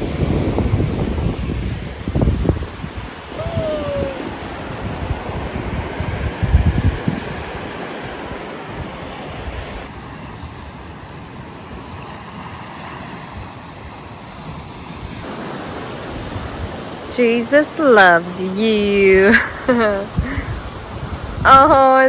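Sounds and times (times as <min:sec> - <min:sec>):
wind buffeting microphone: 0:00.0 - 0:17.4, 0:18.0 - 0:22.0
surf rushing: 0:00.0 - 0:18.2.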